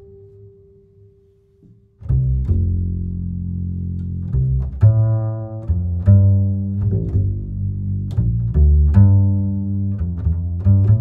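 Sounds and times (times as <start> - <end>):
deep string notes bowed and plucked: 2.0 - 11.0.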